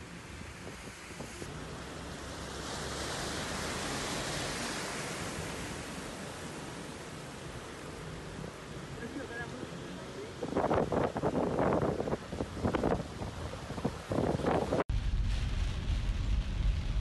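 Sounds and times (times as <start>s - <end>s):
tyres splashing through floodwater: 0.0s - 14.8s.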